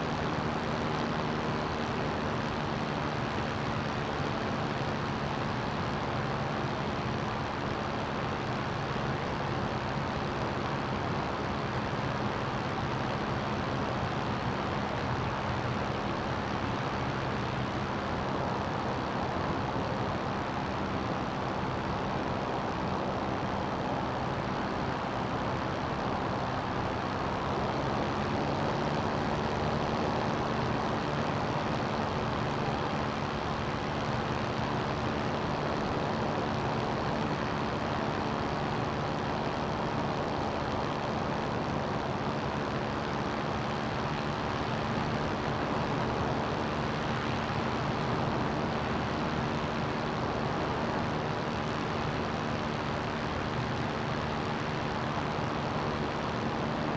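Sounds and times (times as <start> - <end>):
aircraft engine drone: 0.0 - 56.9.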